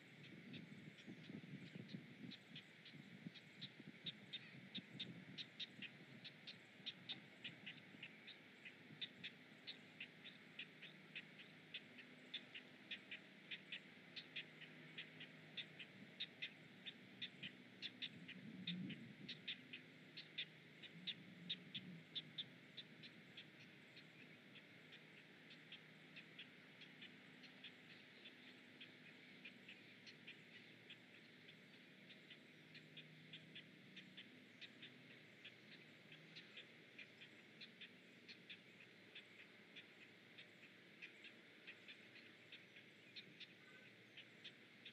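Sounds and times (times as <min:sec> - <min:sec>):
heron chicks clicking: 0:00.5 - 0:44.9.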